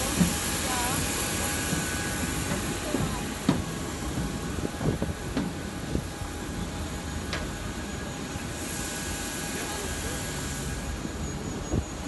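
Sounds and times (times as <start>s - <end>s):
airport hum and rumble: 0.0s - 12.0s.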